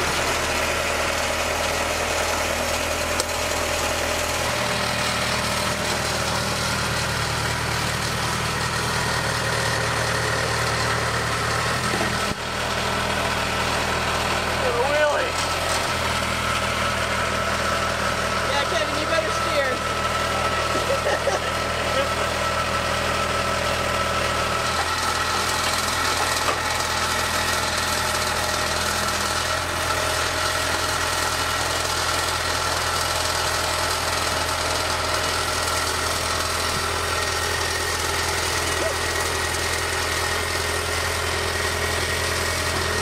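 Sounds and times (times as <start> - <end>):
skid steer engine under load: 0.0 - 43.0.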